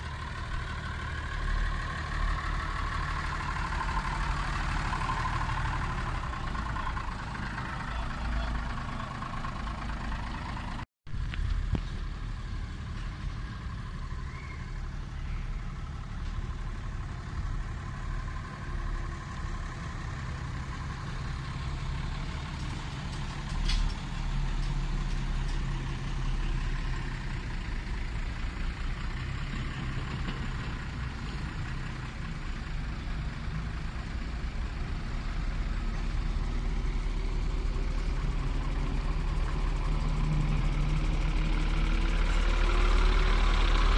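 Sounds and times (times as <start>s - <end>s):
bus engine humming: 0.0s - 43.9s.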